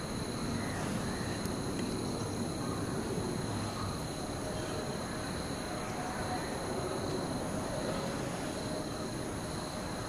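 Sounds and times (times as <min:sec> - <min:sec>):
high insect chirr: 0:00.0 - 0:10.0.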